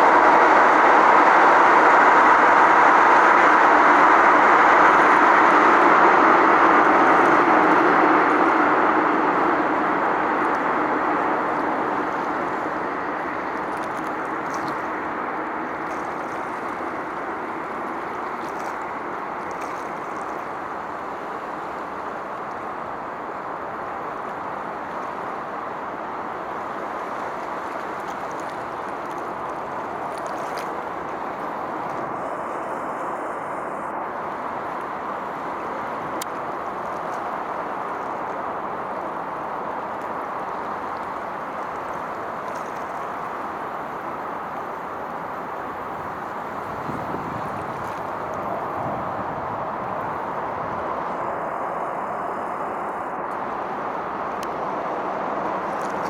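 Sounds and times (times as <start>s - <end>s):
distant road traffic: 0.0s - 56.0s.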